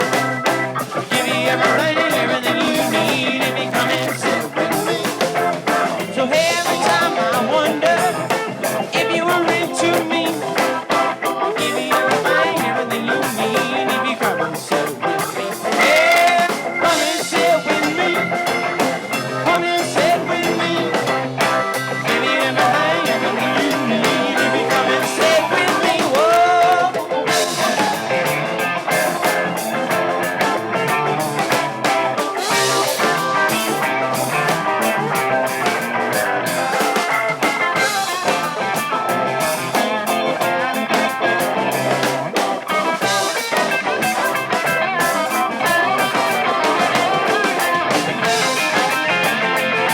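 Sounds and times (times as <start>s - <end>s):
electric guitar lead bent notes: 0.0s - 49.9s
live rock band playing: 0.0s - 49.9s.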